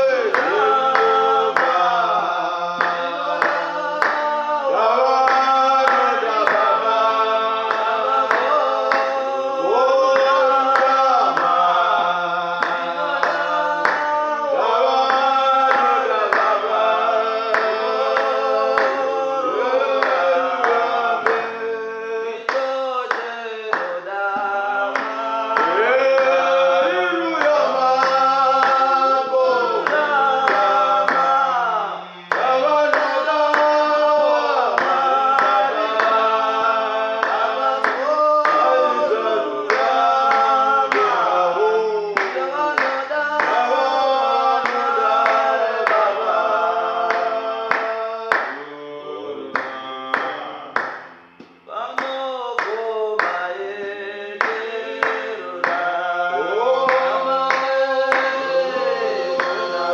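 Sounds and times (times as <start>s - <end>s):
gospel singing voices: 0.0s - 59.9s.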